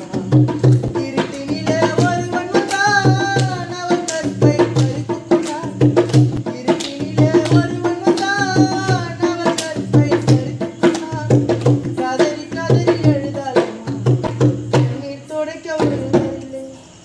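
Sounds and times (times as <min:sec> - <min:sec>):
dholak drum beaten by hand: 0:00.0 - 0:16.8.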